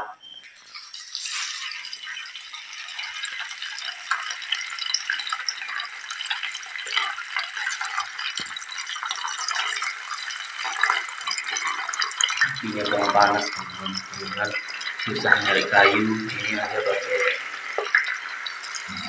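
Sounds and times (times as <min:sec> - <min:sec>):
fish frying in hot oil: 0:00.4 - 0:19.0.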